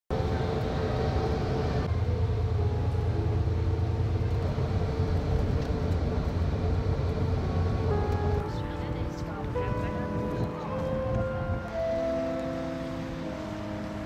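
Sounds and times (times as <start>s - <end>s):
engine and tyre rumble: 0.1s - 14.0s
faint constant whine: 0.2s - 14.0s.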